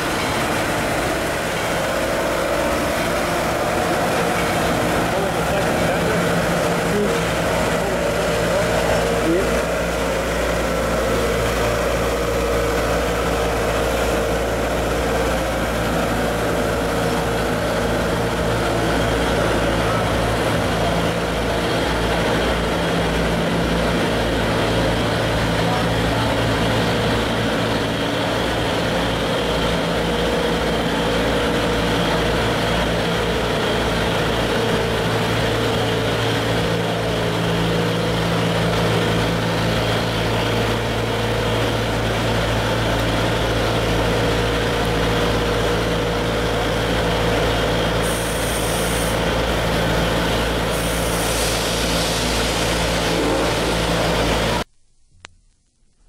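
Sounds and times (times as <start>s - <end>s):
train cars rolling past: 0.0s - 54.7s
low engine drone: 0.0s - 55.2s.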